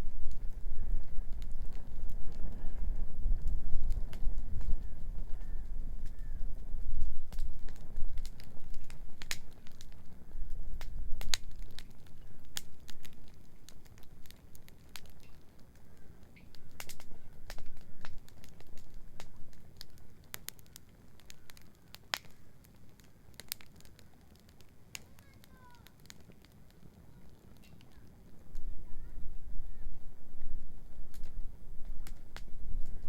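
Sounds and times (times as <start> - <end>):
bonfire crackling and snapping: 0.0 - 33.0.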